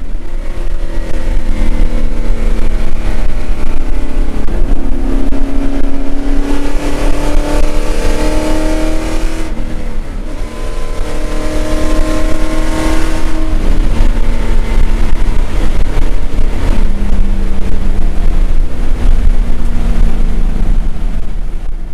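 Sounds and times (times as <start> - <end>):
race car engine: 0.0 - 21.9.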